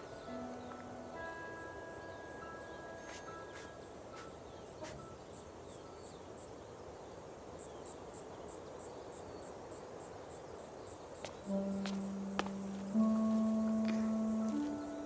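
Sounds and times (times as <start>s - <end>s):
faint low hiss: 0.0s - 15.0s
crickets chirping: 0.2s - 15.0s.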